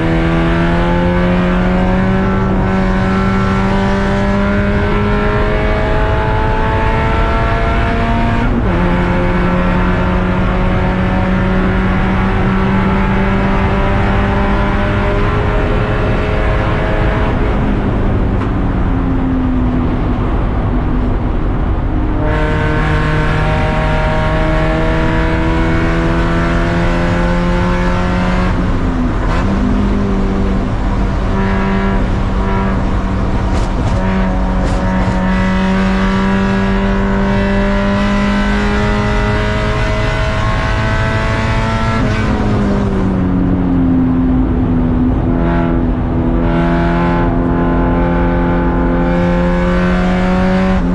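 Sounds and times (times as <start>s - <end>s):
race car engine at full throttle: 0.0s - 50.9s.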